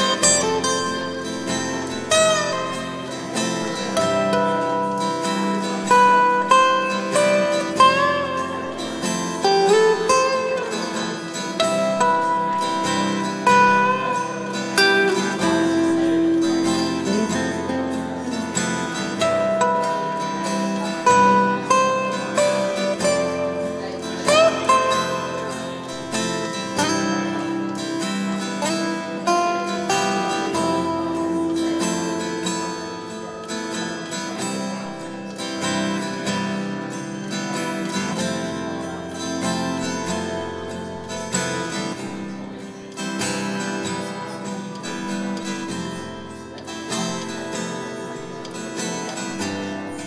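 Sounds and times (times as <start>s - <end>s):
acoustic guitar picking: 0.0s - 50.0s.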